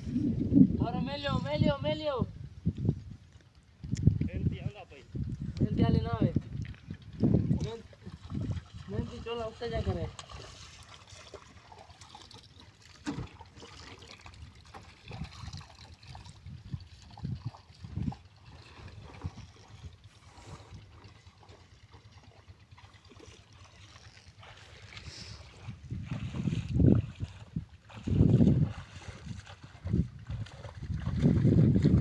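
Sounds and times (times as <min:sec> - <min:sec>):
water lapping against boat hull: 0:00.0 - 0:32.0.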